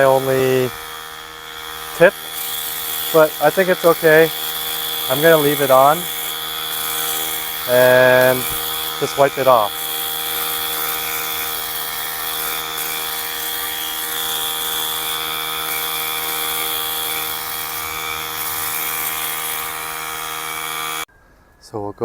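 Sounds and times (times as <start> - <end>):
electric pump motor humming: 0.0 - 21.1.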